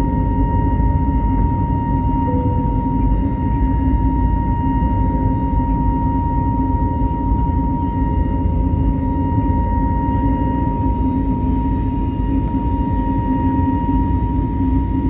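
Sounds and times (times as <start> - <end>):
jet engine high whine: 0.0 - 15.0
jet engines deep rumble: 0.0 - 15.0.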